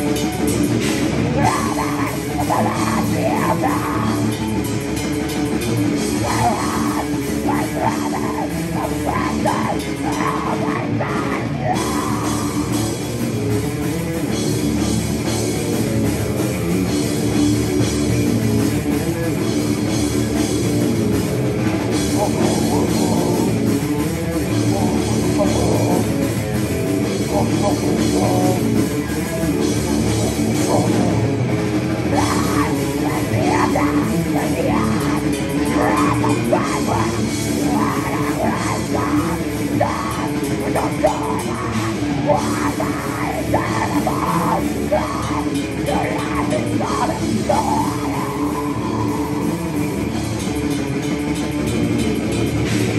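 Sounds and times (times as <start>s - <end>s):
bass guitar: 0.0s - 52.9s
drum kit: 0.0s - 52.9s
electric guitar: 0.0s - 52.9s.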